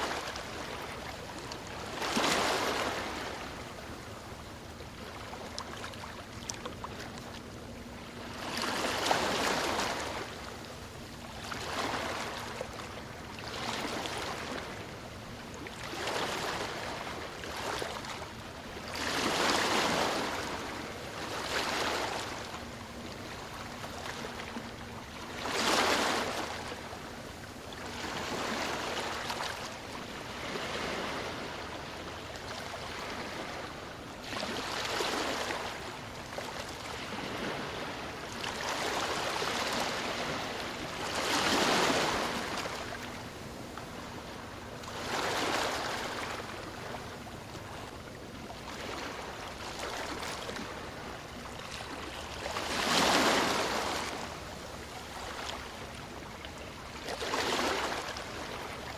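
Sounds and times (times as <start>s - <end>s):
ocean waves washing ashore: 0.0s - 58.9s.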